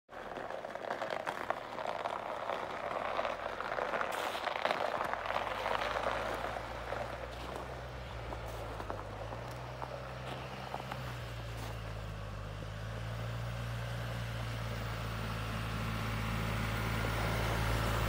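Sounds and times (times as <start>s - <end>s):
diesel engine running: 0.1s - 18.0s.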